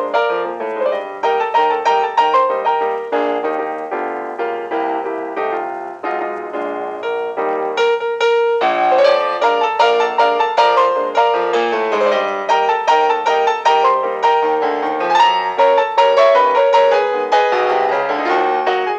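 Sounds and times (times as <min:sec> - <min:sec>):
ragtime piano music: 0:00.0 - 0:18.9.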